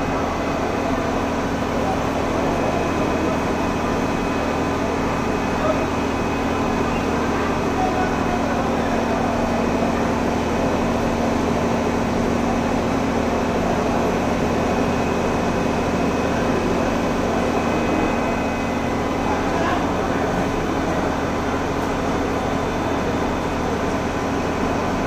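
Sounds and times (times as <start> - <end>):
fire engine humming: 0.0 - 25.0
murmur of voices: 0.0 - 25.0.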